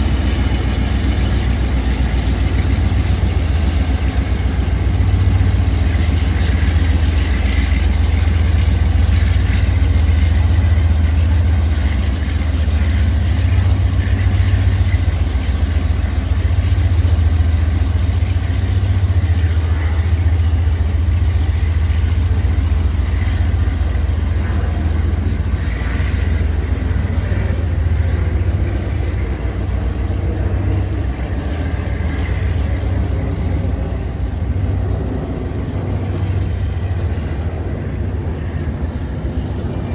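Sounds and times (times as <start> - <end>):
diesel locomotive engine rumbling: 0.0 - 39.9.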